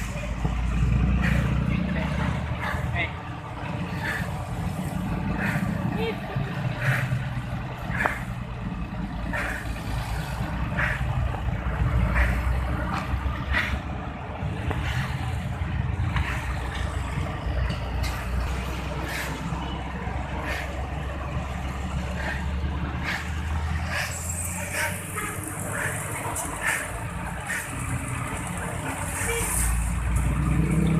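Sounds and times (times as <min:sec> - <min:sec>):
heavy truck engines rumbling: 0:00.0 - 0:30.9.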